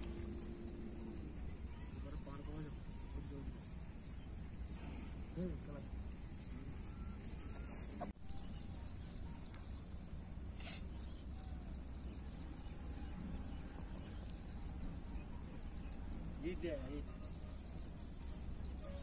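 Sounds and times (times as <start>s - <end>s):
low steady rumble: 0.0s - 16.5s
crickets chirring: 0.0s - 19.0s.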